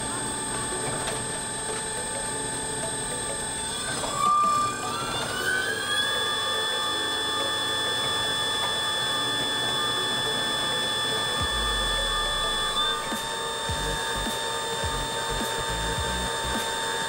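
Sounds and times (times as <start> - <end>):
mixer motor whine: 0.0 - 17.0.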